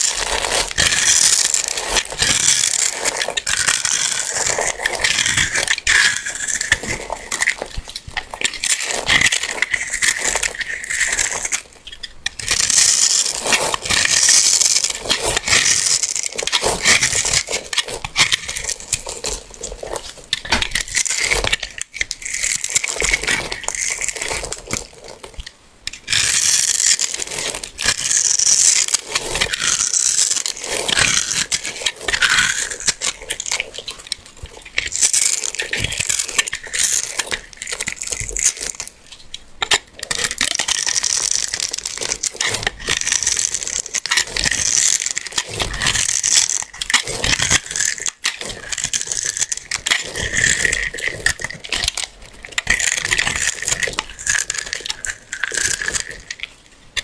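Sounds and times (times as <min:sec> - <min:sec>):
soap crunching by hand: 0:00.0 - 0:57.0.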